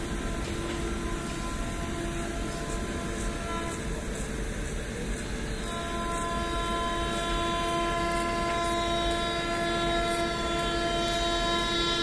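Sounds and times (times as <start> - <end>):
train horn blast: 0.0 - 4.1, 5.6 - 12.0
low train rumble: 0.0 - 12.0.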